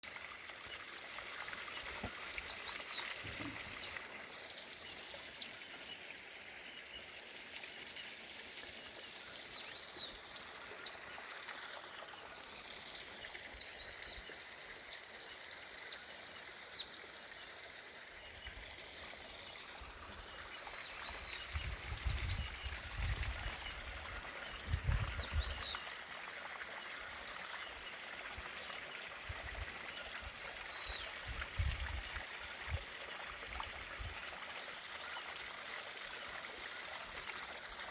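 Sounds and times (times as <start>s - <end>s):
stream trickling: 0.0s - 37.9s.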